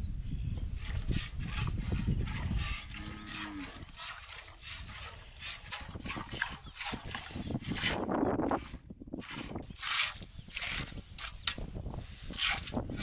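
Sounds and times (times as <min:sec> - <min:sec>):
milk squirting into metal pail: 0:00.8 - 0:11.6.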